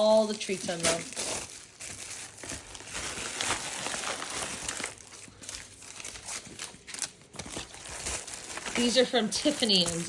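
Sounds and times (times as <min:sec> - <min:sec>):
gift packaging crinkling: 0:00.0 - 0:10.0.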